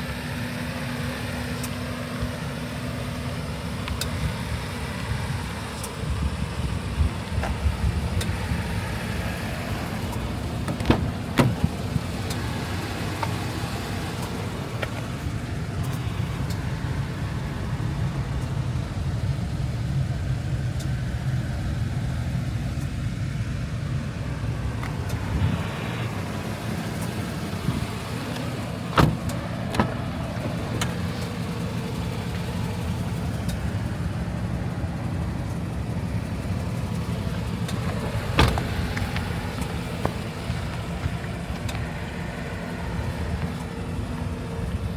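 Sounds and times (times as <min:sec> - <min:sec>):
car engine droning: 0:00.0 - 0:44.9.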